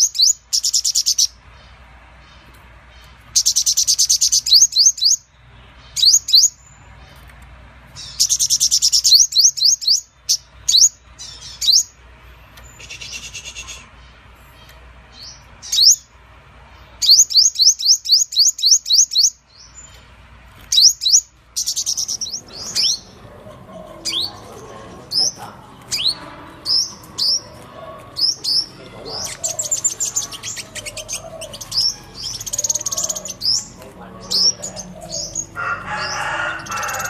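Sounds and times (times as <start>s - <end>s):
sunbird high chirps: 0.0s - 7.3s, 7.9s - 37.0s.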